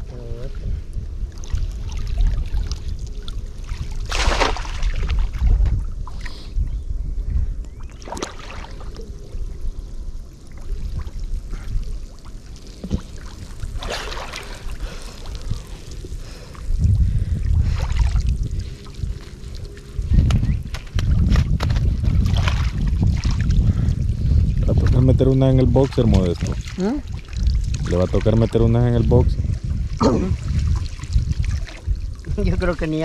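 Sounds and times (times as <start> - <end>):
steady low rumble: 0.0 - 33.0
water sloshing and splashing: 1.2 - 6.4, 7.7 - 9.2, 10.4 - 33.0.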